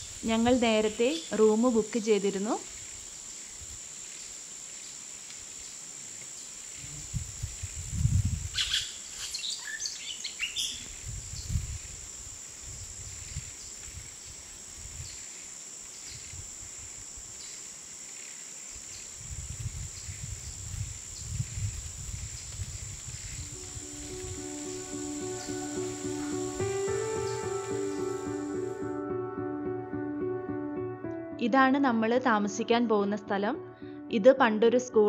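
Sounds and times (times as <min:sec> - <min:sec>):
forest insects droning: 0:00.0 - 0:29.0.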